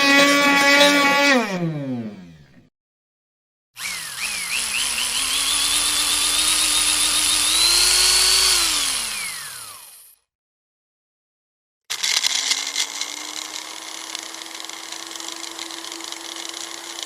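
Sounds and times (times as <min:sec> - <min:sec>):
electric blender motor whining: 0:00.0 - 0:02.6, 0:03.8 - 0:10.3, 0:11.9 - 0:17.0.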